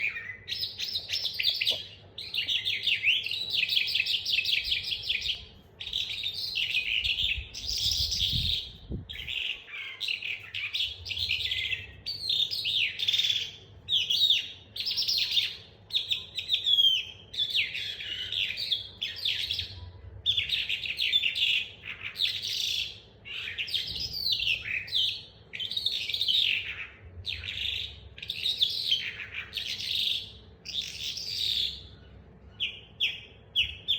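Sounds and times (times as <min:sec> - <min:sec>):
lark singing chattering trills: 0:00.0 - 0:32.0.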